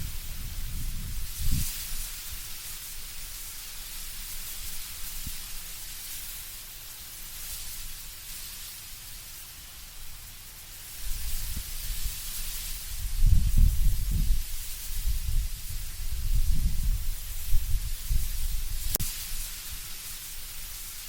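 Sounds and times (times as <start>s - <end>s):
wind rustling leaves: 0.0s - 21.0s.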